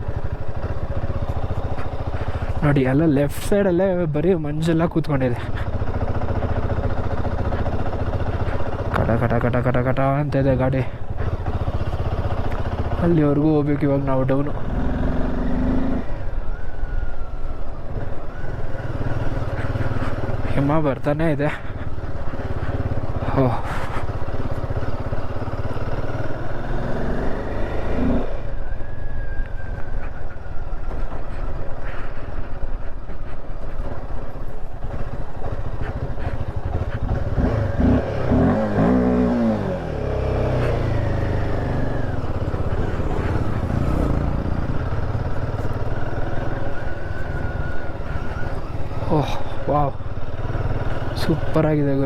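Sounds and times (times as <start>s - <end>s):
single-cylinder motorcycle engine running: 0.0s - 3.3s, 5.4s - 28.6s, 30.0s - 52.0s.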